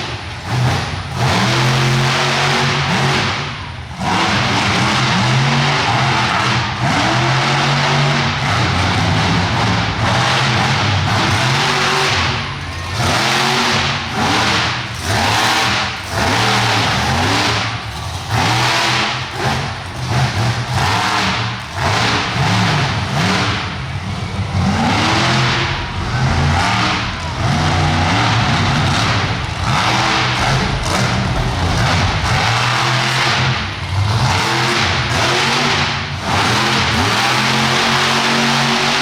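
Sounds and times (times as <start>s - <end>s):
truck engine revving hard: 0.0s - 39.0s.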